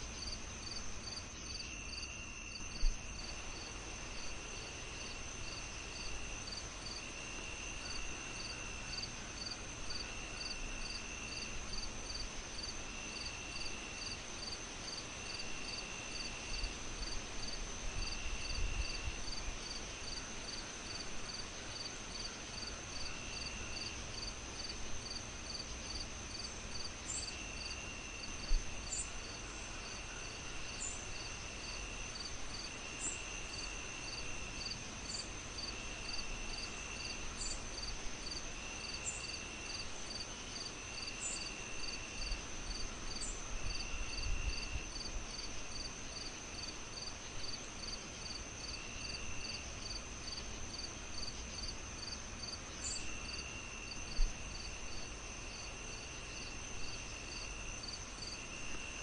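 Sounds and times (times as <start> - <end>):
constant hiss: 0.0 - 59.0
insects chirping: 0.0 - 59.0.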